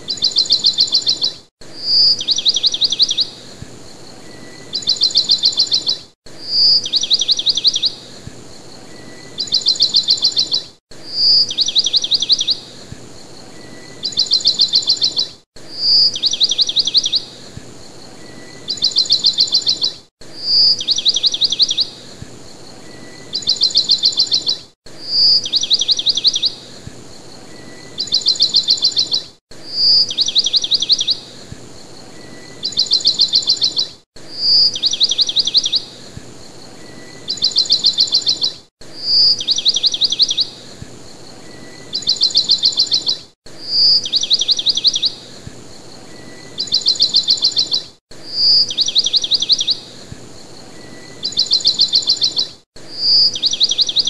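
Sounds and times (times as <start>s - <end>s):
bird song with trills: 0.0s - 54.0s.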